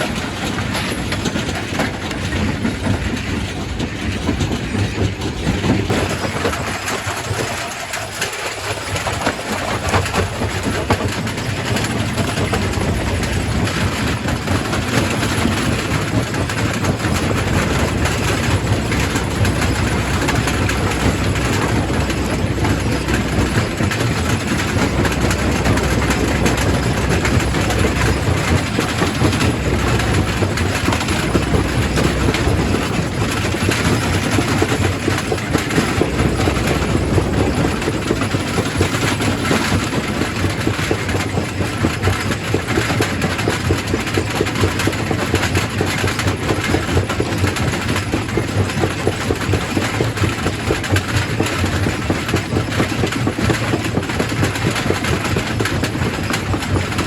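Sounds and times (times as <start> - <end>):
rock crusher rumbling: 0.0 - 57.0.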